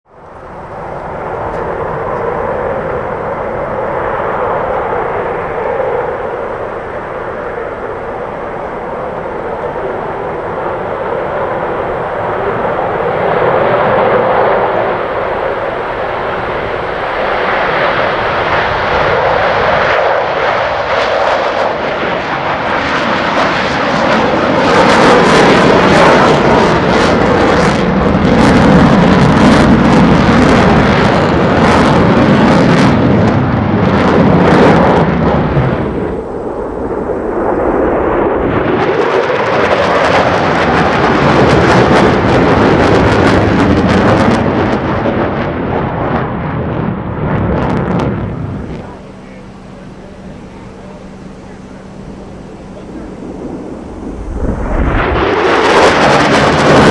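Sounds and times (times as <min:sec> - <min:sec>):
jet engine roar: 0:00.1 - 0:56.9.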